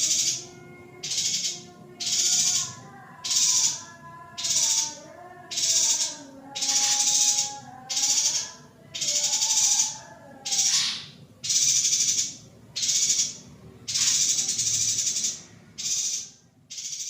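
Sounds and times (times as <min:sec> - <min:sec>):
bird buzzy rattling calls: 0:01.0 - 0:17.0.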